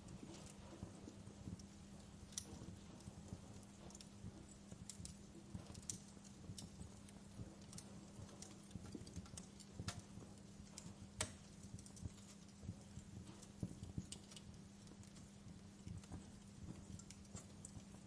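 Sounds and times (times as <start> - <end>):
steady low hum: 0.0 - 18.0
wood fire crackling: 0.0 - 18.0.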